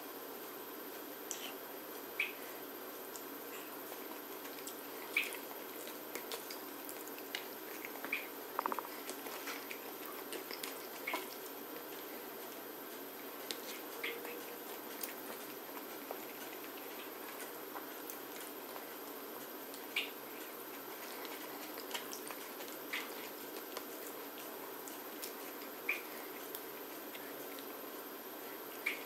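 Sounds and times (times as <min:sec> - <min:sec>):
steady hiss: 0:00.0 - 0:29.0
person chewing food: 0:03.6 - 0:29.0.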